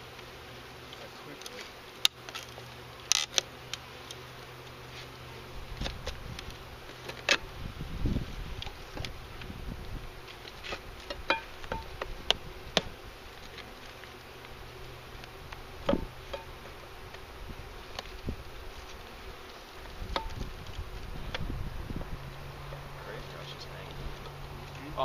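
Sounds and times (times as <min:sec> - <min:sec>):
bees buzzing: 0:00.0 - 0:25.0
bee whining close by: 0:02.6 - 0:25.0.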